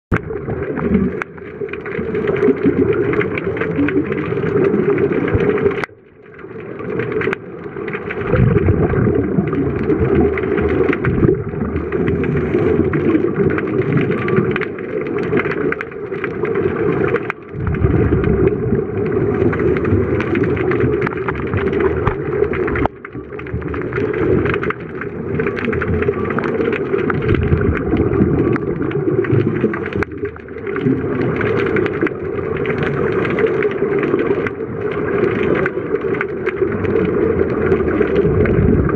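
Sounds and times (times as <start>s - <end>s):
underwater regulator bubbles: 0.1s - 38.9s.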